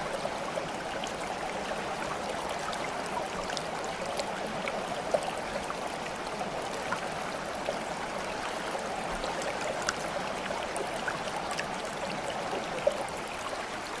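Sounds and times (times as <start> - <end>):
stream trickling and babbling: 0.0 - 14.0.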